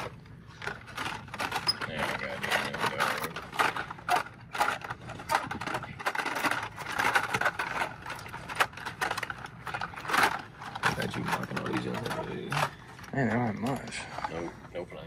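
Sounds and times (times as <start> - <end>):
plastic packs clicking and rattling: 0.0 - 14.5.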